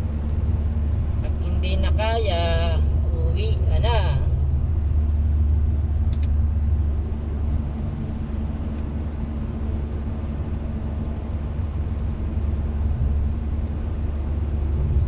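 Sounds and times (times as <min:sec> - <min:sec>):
vehicle cabin road noise: 0:00.0 - 0:15.0.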